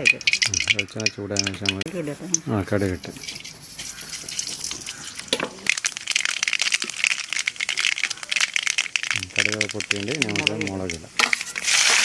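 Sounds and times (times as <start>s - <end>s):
seeds frying in oil: 0.0s - 12.0s.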